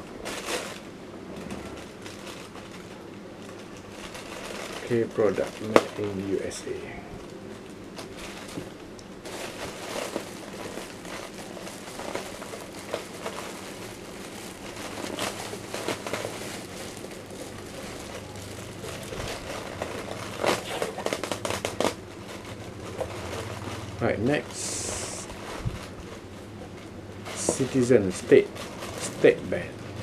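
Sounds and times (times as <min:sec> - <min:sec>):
plastic bag crinkling: 0:00.0 - 0:30.0.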